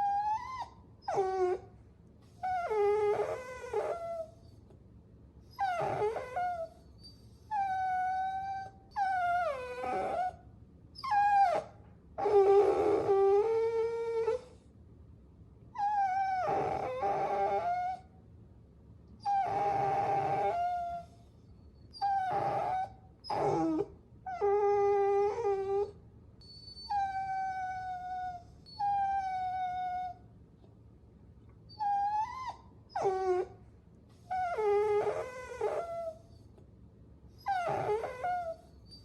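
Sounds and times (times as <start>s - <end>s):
puppy whining: 0.0s - 4.8s, 5.4s - 10.4s, 11.0s - 14.7s, 15.7s - 18.1s, 19.2s - 30.3s, 31.5s - 36.6s, 37.3s - 39.0s.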